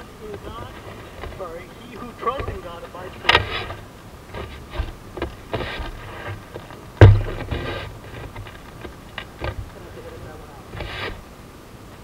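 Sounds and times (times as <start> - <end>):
microphone handling thumps: 0.3 - 11.3.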